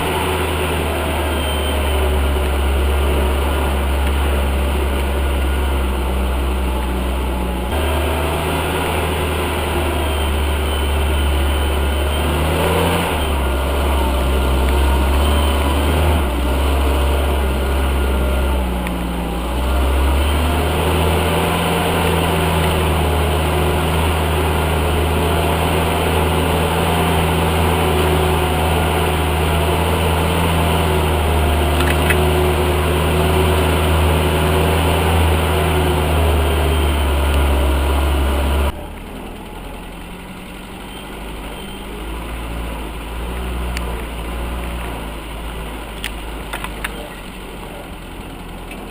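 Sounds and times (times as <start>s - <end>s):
off-road vehicle engine rumbling: 0.0s - 48.9s.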